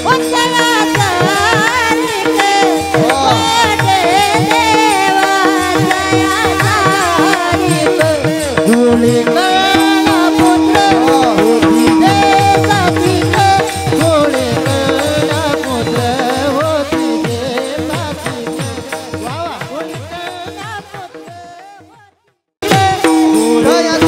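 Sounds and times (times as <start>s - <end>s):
drum beating fast rhythm: 0.0s - 24.0s
man singing: 0.0s - 24.0s.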